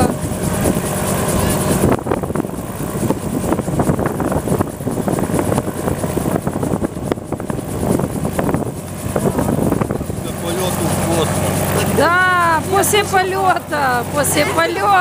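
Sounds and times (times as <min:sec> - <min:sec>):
helicopter running: 0:00.0 - 0:15.0.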